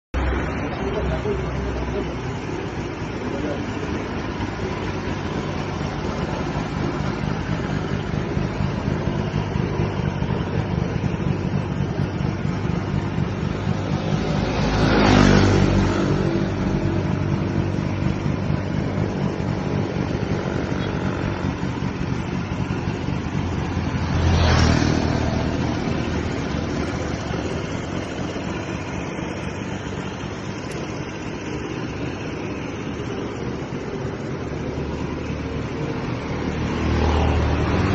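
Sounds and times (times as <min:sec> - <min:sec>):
engine running steadily: 0:00.2 - 0:37.9.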